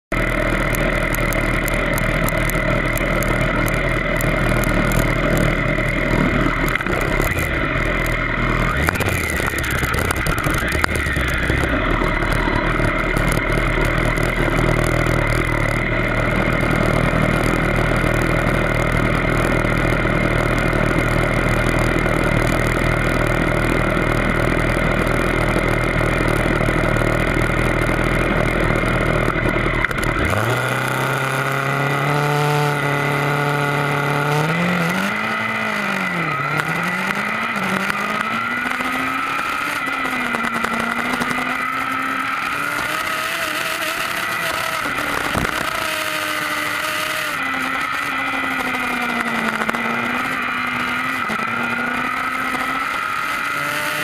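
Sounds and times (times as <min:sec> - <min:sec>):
motorcycle engine idling: 0:00.1 - 0:53.4.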